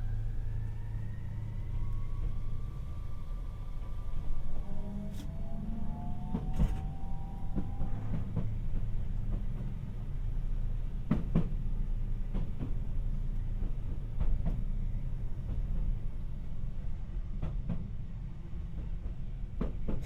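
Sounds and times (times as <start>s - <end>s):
light-rail car rumbling: 0.0s - 20.0s.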